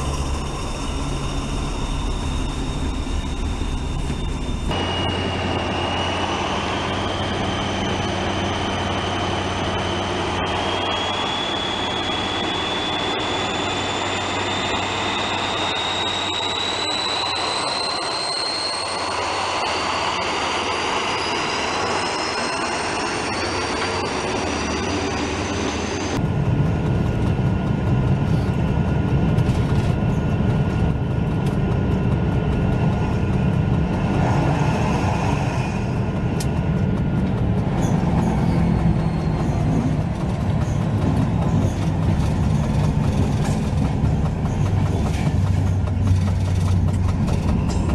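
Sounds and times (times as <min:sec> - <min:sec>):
rough rumble of moving train: 0:00.0 - 0:47.9
wheels rattling on rail: 0:00.0 - 0:47.9.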